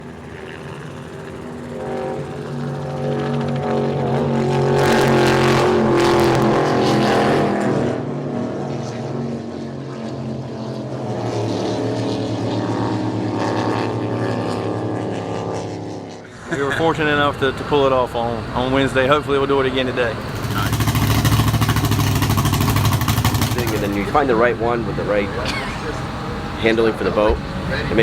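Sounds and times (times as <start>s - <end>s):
powerboat engines at speed: 0.0s - 28.0s.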